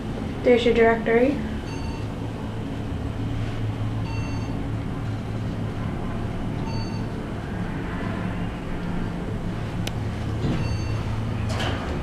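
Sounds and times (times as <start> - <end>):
elevator hum: 0.0 - 12.0.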